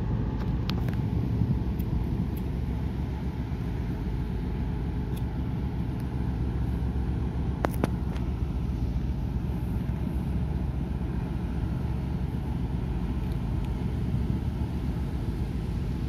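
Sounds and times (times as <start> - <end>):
ship rumble: 0.0 - 16.0.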